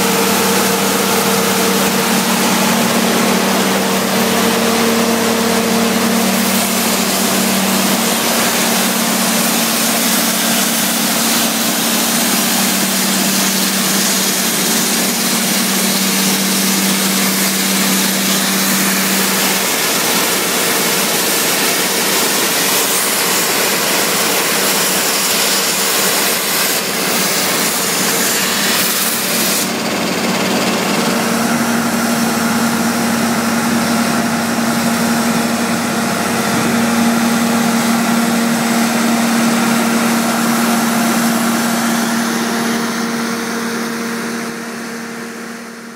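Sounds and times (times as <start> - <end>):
diesel engine running: 0.0 - 24.3, 26.8 - 45.9.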